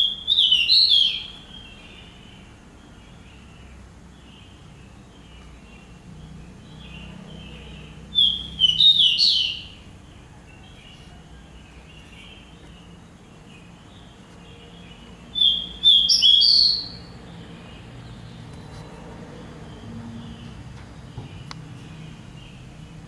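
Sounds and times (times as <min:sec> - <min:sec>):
small bird high chirps: 0:00.0 - 0:23.0
soft bird twittering: 0:00.0 - 0:23.0.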